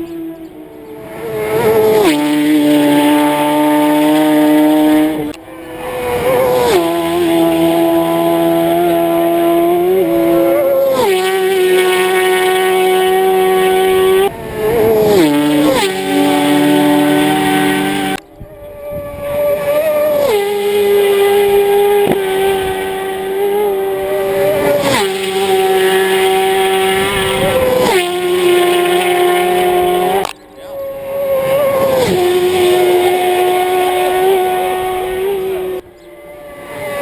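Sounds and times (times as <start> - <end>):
racing motorcycles passing by: 0.0 - 37.0.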